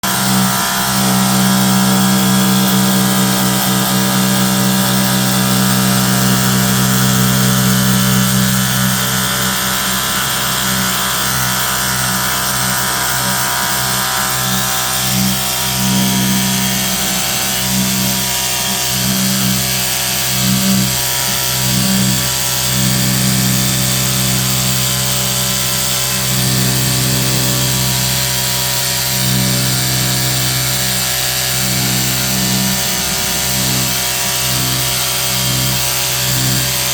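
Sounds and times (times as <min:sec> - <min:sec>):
pressure washer pump humming: 0:00.0 - 0:36.9.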